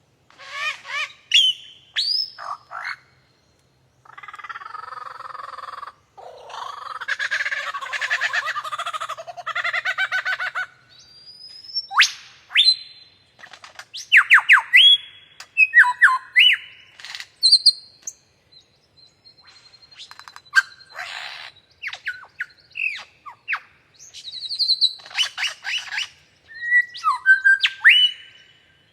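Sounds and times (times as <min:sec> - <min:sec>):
lyrebird singing: 0:00.4 - 0:28.9.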